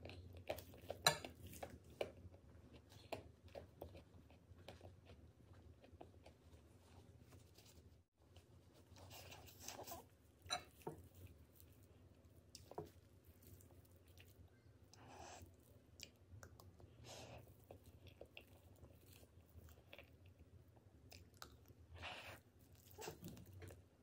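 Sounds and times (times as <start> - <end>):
soft chewing and mouth noises: 0.0 - 24.0.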